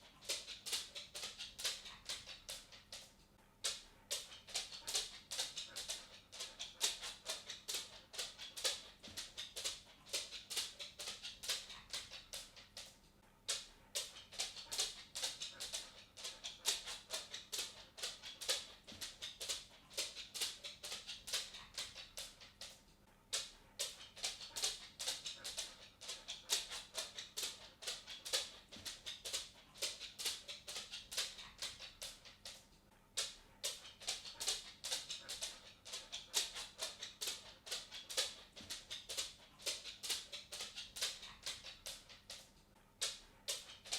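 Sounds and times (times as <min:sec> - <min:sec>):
dog claws clicking on wooden floor: 0:00.0 - 0:43.9.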